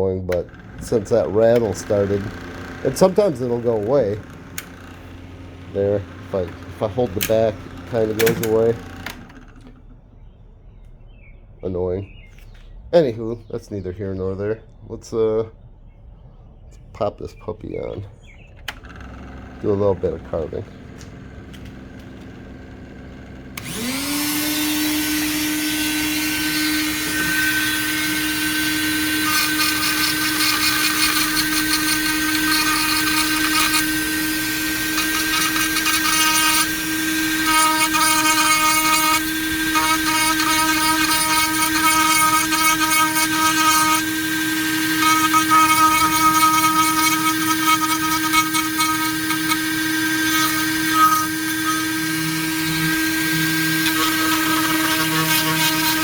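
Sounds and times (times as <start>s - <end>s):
rotary tool bit grinding wood: 0.0s - 10.0s, 18.4s - 56.0s
rotary tool whining: 0.0s - 11.0s, 15.8s - 56.0s.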